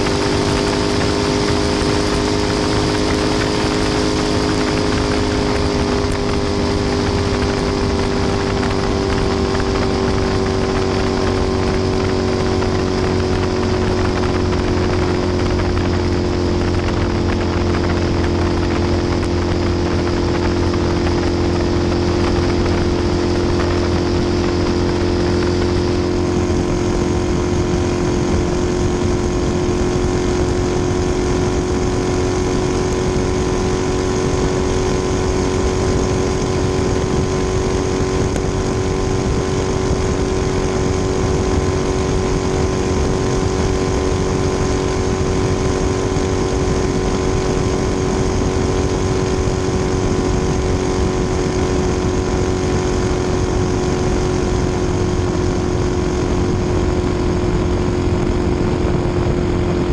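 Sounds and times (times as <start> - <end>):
race boat engine at high revs: 0.0 - 59.9.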